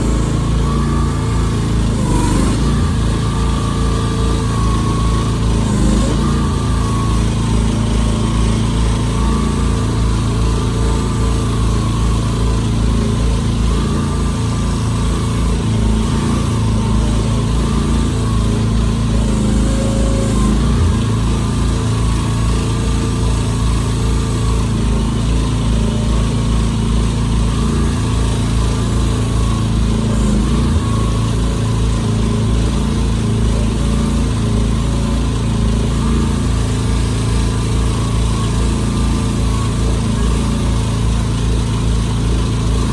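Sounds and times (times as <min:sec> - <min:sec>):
mini excavator engine running: 0:00.0 - 0:42.9.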